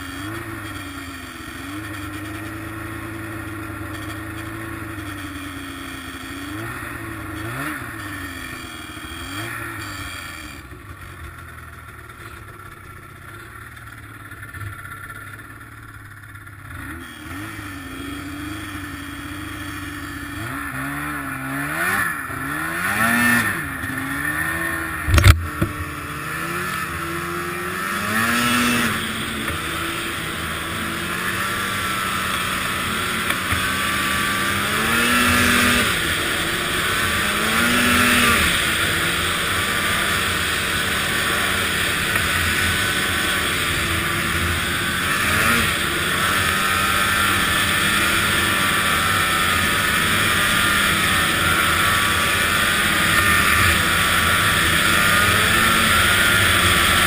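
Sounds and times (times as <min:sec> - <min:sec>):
snowmobile engine revving: 0:00.0 - 0:11.0, 0:16.6 - 0:57.0.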